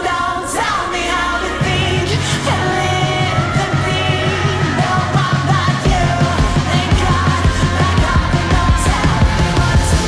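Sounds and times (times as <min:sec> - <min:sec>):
bass line: 0:00.0 - 0:10.0
pop-rock song with vocals: 0:00.0 - 0:10.0.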